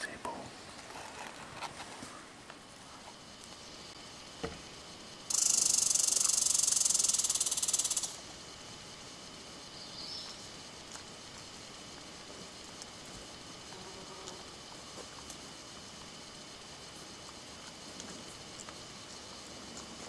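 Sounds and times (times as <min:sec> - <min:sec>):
high-pitched rasping hiss: 0:00.0 - 0:20.0.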